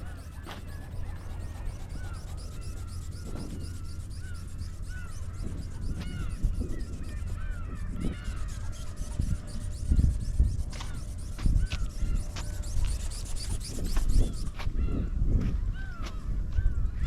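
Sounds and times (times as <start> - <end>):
birds calling: 0.0 - 15.0
wind buffeting microphone: 0.0 - 17.0.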